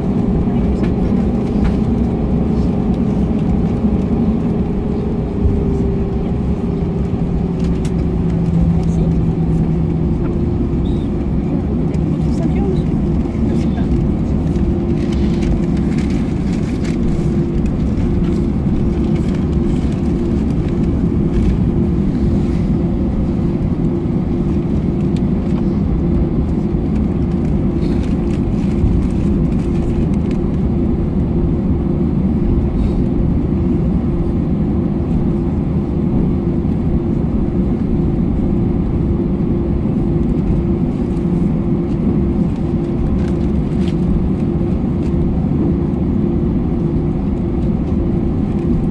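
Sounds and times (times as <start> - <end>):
jet engines idling: 0.0 - 48.9.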